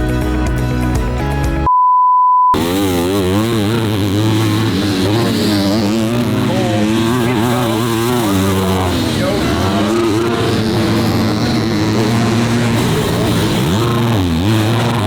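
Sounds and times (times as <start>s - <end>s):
motocross bike engines revving: 2.6s - 15.0s.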